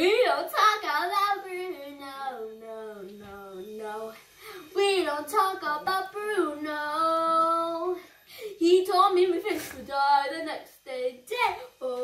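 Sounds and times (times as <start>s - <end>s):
child singing: 0.0s - 8.0s, 8.6s - 12.0s.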